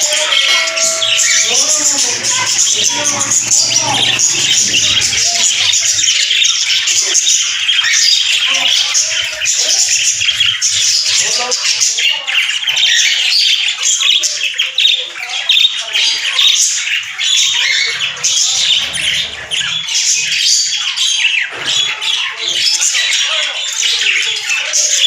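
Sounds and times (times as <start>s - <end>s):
parrots chattering and squawking: 0.0s - 25.0s.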